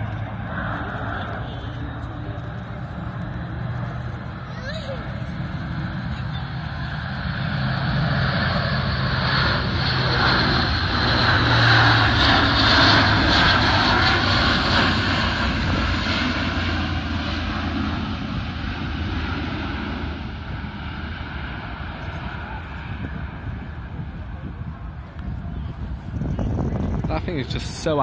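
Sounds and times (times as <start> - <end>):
turboprop aircraft passing: 0.0 - 28.0.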